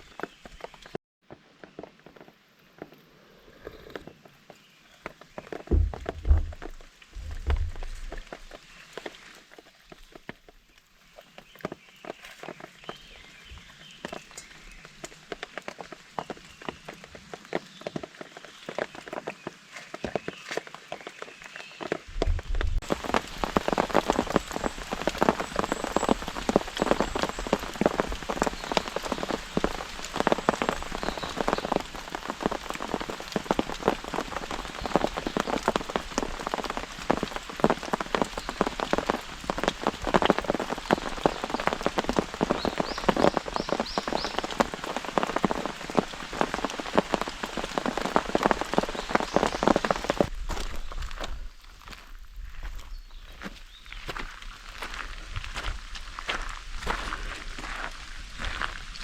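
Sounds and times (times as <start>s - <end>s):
rain on a tarp: 0.0s - 3.0s, 4.2s - 59.0s.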